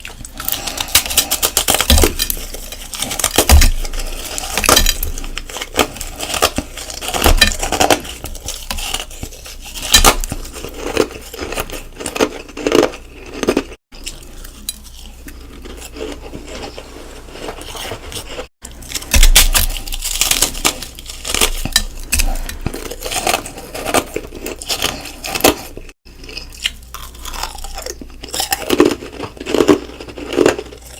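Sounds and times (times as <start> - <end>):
chewing hard ice: 0.0 - 30.9.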